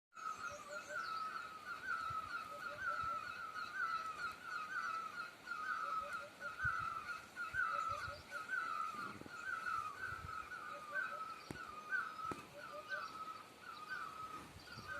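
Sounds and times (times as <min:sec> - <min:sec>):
bird wavering chirps: 0:00.2 - 0:14.9.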